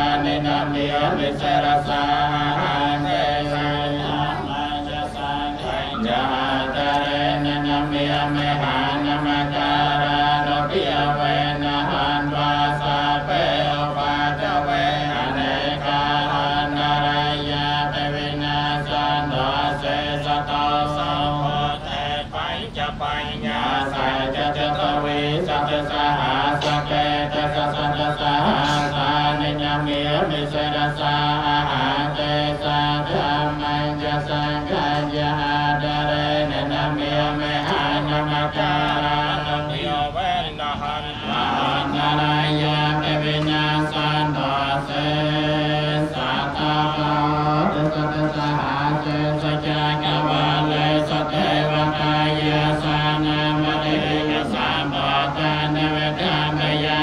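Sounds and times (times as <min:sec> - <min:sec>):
monks chanting in unison: 0:00.0 - 0:57.0.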